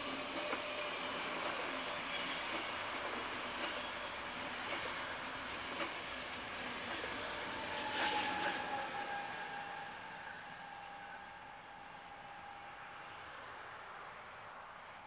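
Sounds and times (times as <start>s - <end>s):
train wheels rushing on rails: 0.0s - 13.8s.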